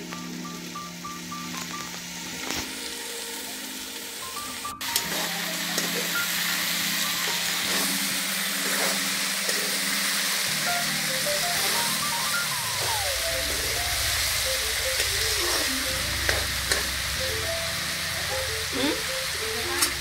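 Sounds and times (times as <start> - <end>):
vegetables sizzling in iron pan: 0.0 - 20.0.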